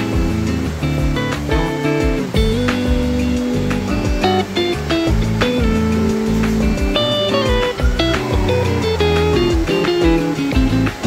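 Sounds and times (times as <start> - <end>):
guitar-led song with bass: 0.0 - 11.0.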